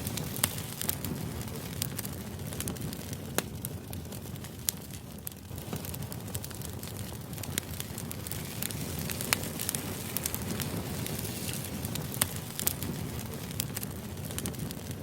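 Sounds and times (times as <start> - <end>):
fire crackling with pops: 0.0 - 15.0.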